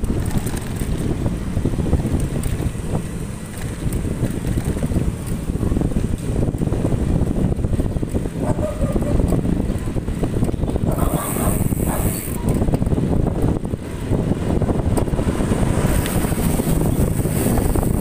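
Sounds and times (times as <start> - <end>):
motorcycle engine: 0.0 - 18.0
road noise: 0.0 - 18.0
wind buffeting microphone: 0.0 - 18.0.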